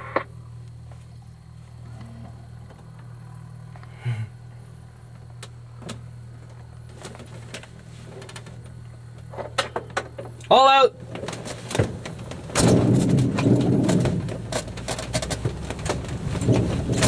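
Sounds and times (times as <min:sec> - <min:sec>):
light plane engine droning: 0:00.0 - 0:17.0.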